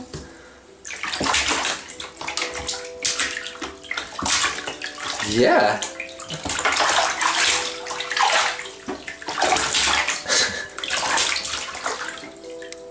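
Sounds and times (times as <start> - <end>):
baby splashing water: 0.8 - 12.9.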